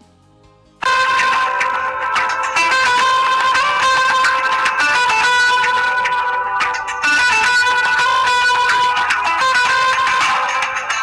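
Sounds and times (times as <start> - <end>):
plucked guitar ringtone: 0.8 - 11.0.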